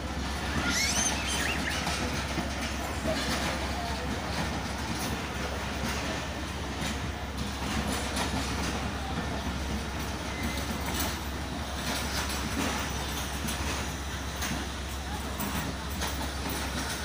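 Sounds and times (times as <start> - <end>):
clatter over rail joints: 0.0 - 17.0
train wheels running on rails: 0.0 - 17.0.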